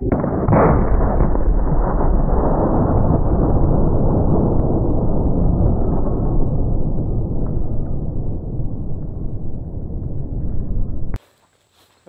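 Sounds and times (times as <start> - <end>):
gun blast deep boom: 0.0 - 11.2.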